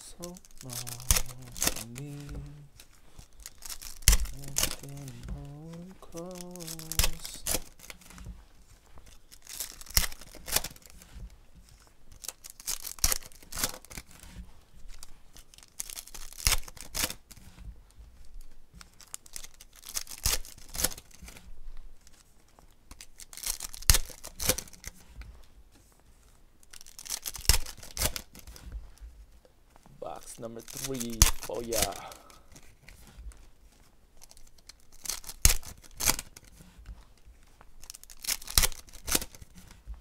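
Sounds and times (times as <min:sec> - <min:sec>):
foil wrappers tearing and crinkling: 0:00.0 - 0:17.6, 0:18.2 - 0:25.2, 0:26.6 - 0:28.7, 0:30.0 - 0:39.8.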